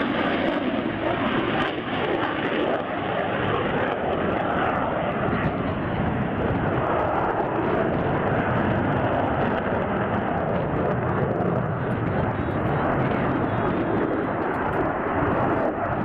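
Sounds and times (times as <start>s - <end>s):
aircraft engine rushing: 0.0s - 16.0s.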